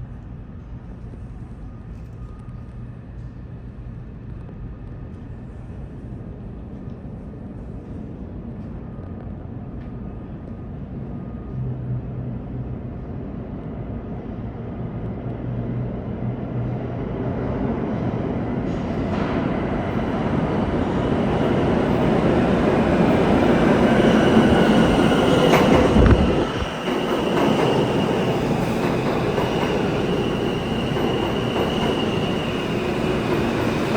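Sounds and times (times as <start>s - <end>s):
subway train rumble: 0.0s - 33.9s.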